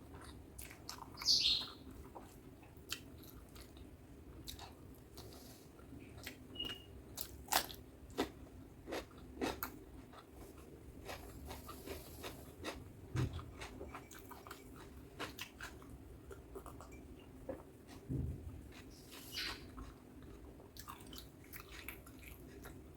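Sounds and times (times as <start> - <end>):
person chewing food: 0.0 - 22.9.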